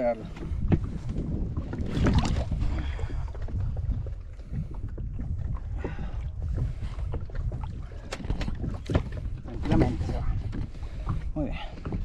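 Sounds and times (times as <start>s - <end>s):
water splashing against boat: 0.0s - 12.0s
wind rumbling on microphone: 0.0s - 12.0s.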